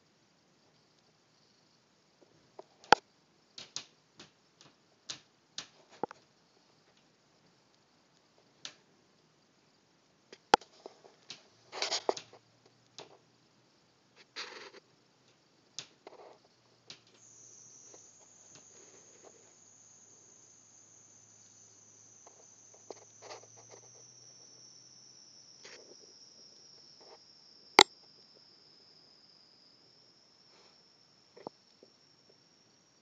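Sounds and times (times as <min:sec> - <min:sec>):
faint high whine: 0:00.0 - 0:33.0.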